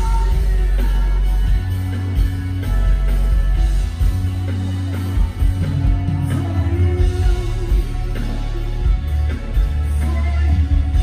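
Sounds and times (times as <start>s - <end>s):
male singer amplified voice: 0.0s - 3.7s, 5.6s - 11.0s
live band music: 0.0s - 11.0s.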